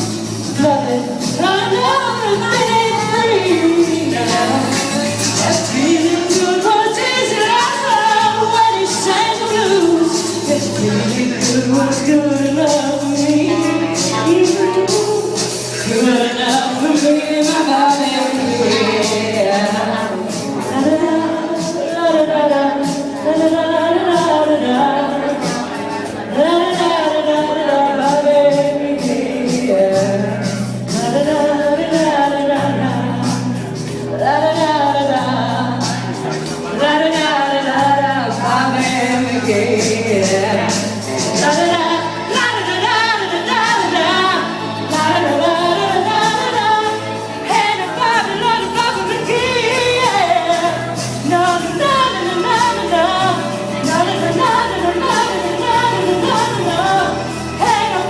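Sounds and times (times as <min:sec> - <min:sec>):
karaoke backing track: 0:00.0 - 0:58.0
woman singing: 0:00.0 - 0:58.0.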